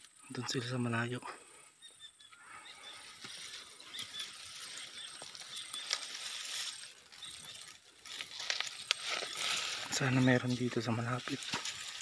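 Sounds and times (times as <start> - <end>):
grass rustling against phone: 2.2 - 12.0.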